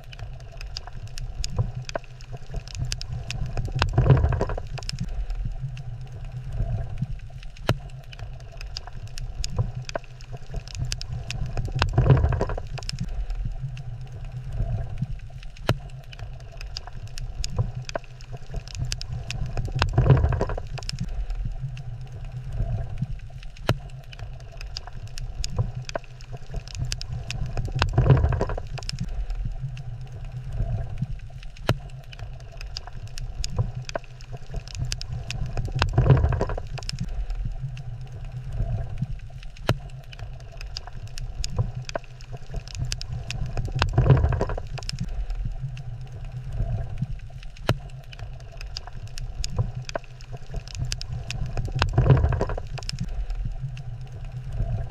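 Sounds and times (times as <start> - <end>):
low rumble of moving water: 0.0 - 54.9.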